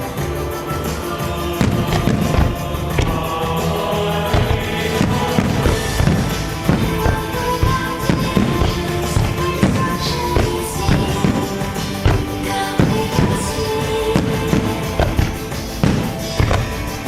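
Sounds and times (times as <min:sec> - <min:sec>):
fireworks bursting: 0:00.0 - 0:17.0
music: 0:00.0 - 0:17.0.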